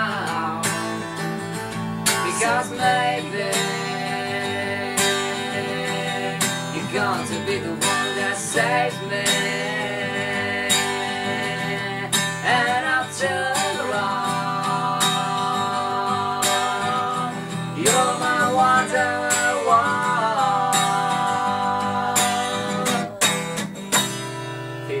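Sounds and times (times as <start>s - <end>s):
man singing: 0.0s - 1.0s, 2.1s - 23.8s
acoustic guitar strumming: 0.0s - 25.0s.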